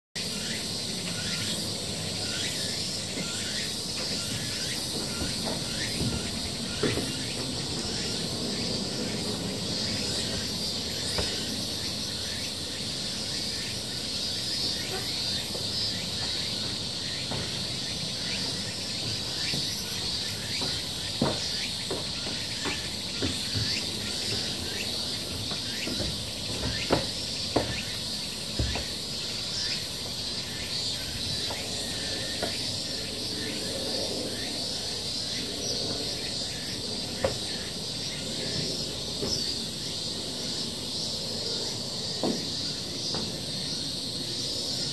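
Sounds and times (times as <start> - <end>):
cicada chorus drone: 0.1 - 44.9.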